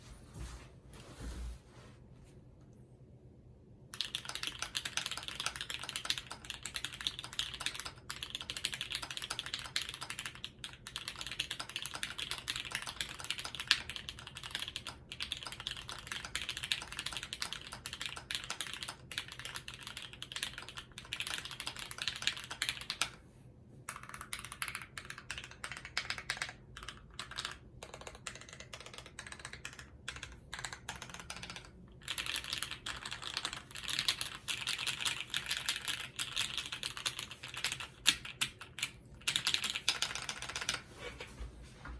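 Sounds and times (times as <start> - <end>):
mechanical keyboard typing: 4.0 - 23.2, 23.9 - 40.8.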